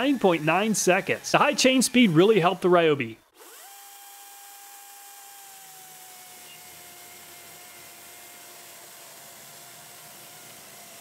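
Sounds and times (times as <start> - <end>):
electric chainsaw cutting wood: 0.0 - 11.0.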